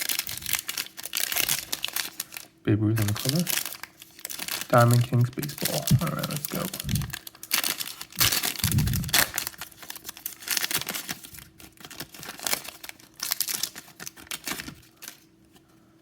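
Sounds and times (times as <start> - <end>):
plastic wrapping tearing and crinkling: 0.0 - 15.3.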